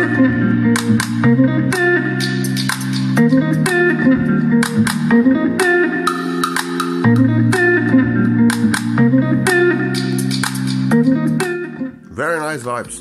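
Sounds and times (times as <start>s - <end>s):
groove music over speakers: 0.0s - 12.0s.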